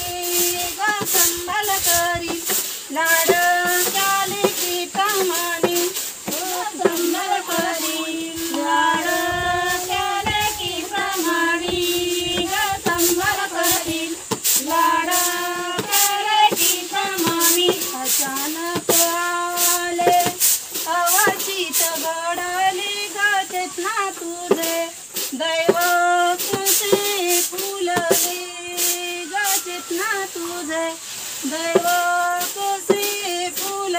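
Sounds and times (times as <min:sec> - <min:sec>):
percussion strikes: 0:00.0 - 0:33.9
woman singing: 0:00.0 - 0:33.9.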